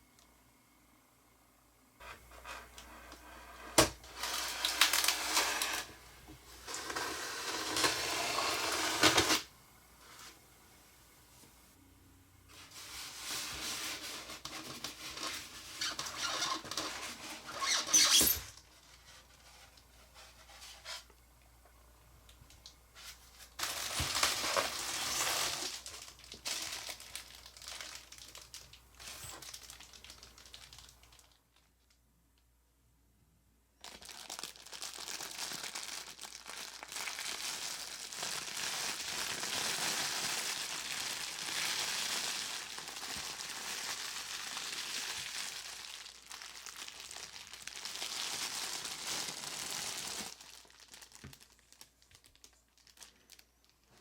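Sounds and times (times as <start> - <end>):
packaging crinkling: 3.8 - 9.5, 12.8 - 21.0, 22.2 - 31.8, 33.8 - 54.0.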